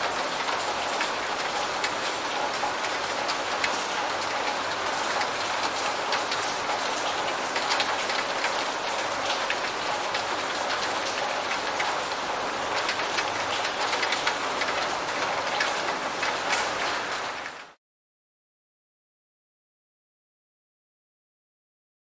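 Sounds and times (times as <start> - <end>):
steady rain: 0.0 - 17.8.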